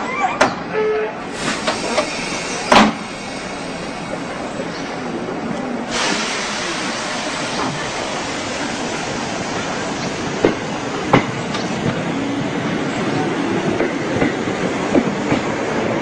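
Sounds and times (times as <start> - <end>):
train wheels rumbling on rail: 0.4 - 16.0.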